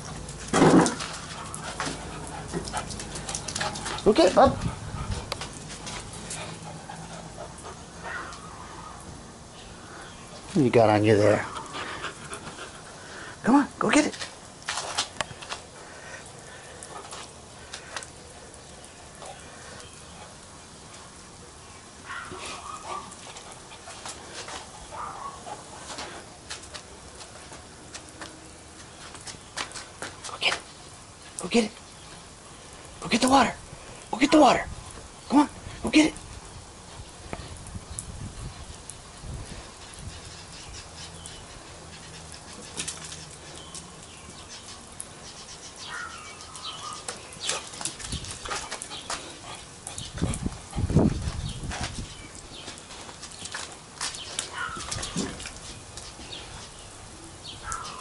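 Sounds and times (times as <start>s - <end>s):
puppy paws clicking on concrete: 0.0s - 21.2s, 22.0s - 35.1s, 35.7s - 58.0s.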